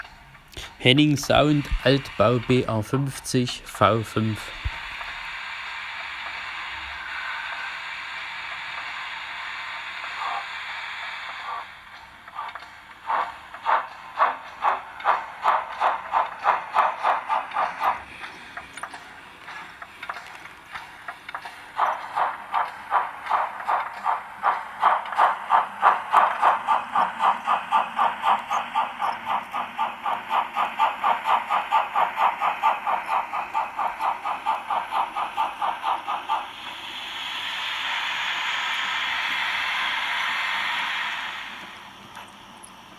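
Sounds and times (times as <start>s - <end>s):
steady steam hiss: 0.0s - 42.9s
steam locomotive chuffing on speaker: 0.0s - 42.9s.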